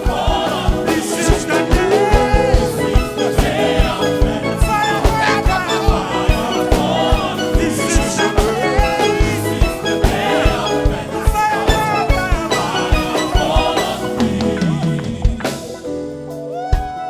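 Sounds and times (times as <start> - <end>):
fast steady drum beat: 0.0 - 16.0
voices singing along: 0.0 - 16.1
sustained keyboard notes: 0.0 - 16.4.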